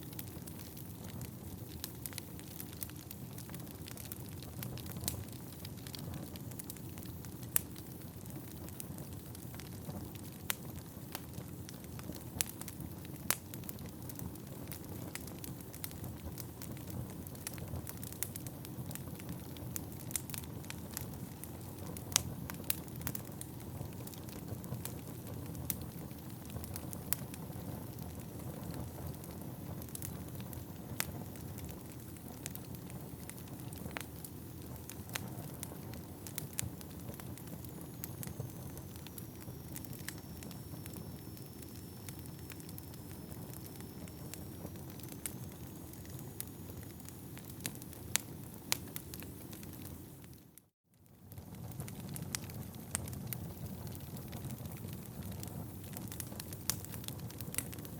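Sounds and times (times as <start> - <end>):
logs crackling and popping: 0.0 - 57.9
low rumble of flames: 0.0 - 57.9.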